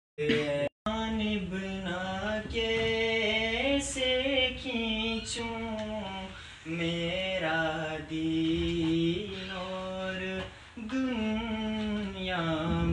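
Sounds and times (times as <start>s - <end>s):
young male voice chanting: 0.2s - 12.9s.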